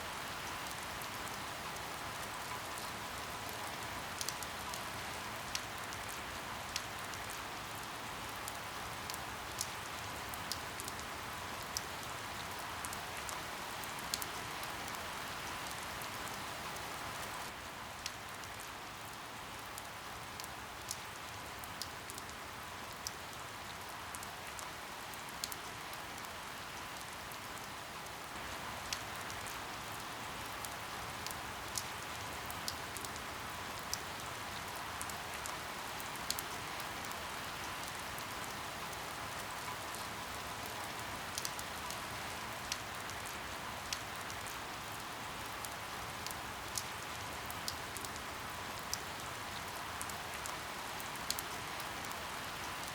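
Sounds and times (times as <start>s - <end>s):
steady rain hiss: 0.0s - 52.9s
raindrops ticking close by: 0.2s - 52.9s.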